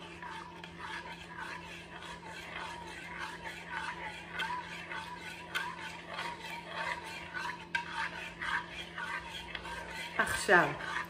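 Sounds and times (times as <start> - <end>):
metal spoon scraping a pot: 0.0 - 11.0.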